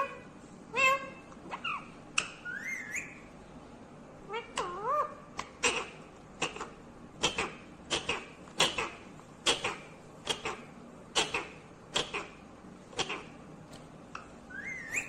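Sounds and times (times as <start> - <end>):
parakeet calling: 0.0 - 3.4, 4.3 - 12.4, 14.4 - 15.0.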